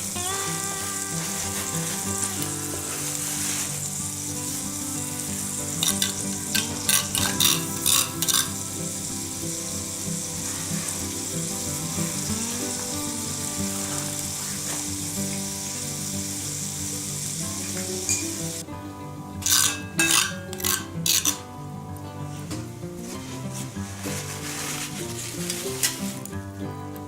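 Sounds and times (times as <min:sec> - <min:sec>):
utensil strokes against pan: 0:00.0 - 0:18.0, 0:19.4 - 0:21.4, 0:22.2 - 0:26.4
fish sizzling in a skillet: 0:00.0 - 0:18.6, 0:19.4 - 0:21.5, 0:23.0 - 0:26.4.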